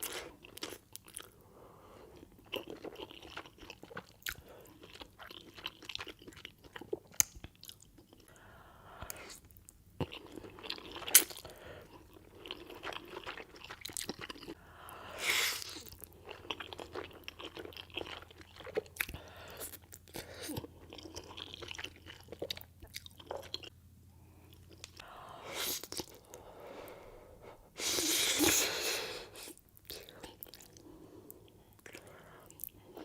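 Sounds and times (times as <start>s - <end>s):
spaghetti being chewed: 0.0s - 1.4s, 2.0s - 23.8s, 28.0s - 33.0s.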